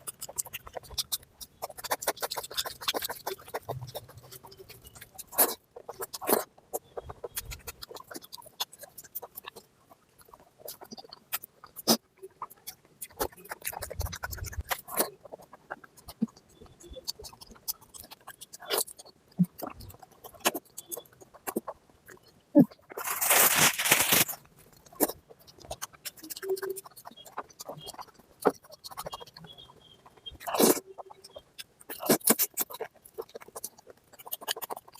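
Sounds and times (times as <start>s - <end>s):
wet chewing and lip smacks: 0.0s - 34.9s.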